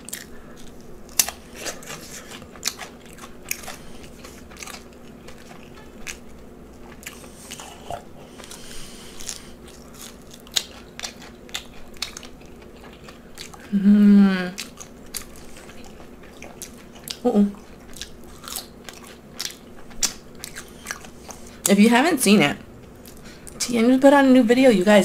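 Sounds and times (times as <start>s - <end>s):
chewing and biting: 0.0s - 13.8s, 14.6s - 21.6s.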